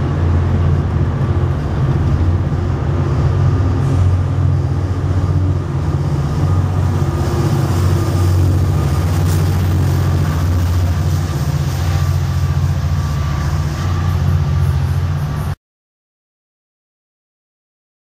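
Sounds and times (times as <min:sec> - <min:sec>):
diesel locomotive engine drone: 0:00.0 - 0:15.6.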